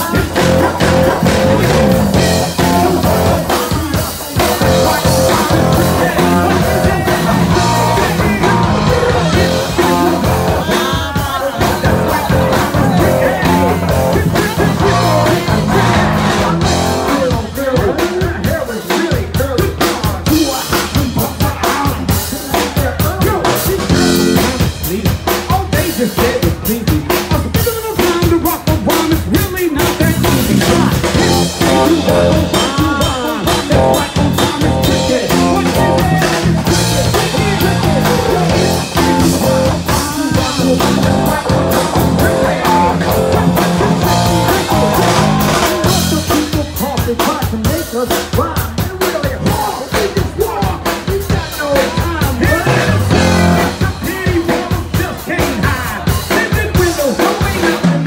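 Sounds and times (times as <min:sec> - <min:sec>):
bass: 0:00.0 - 0:58.0
drum kit: 0:00.0 - 0:58.0
guitar: 0:00.0 - 0:58.0
person singing: 0:00.0 - 0:58.0.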